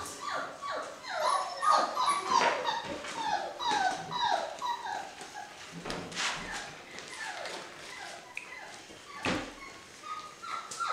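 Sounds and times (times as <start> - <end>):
puppies whining: 0.0 - 5.6, 6.4 - 10.9.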